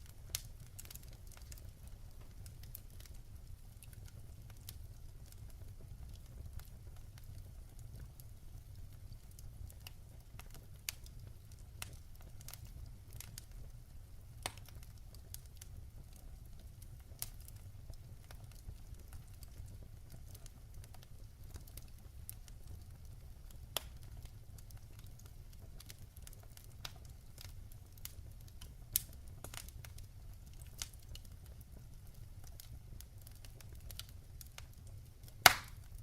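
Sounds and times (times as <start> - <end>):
log fire crackling and popping: 0.0 - 36.0.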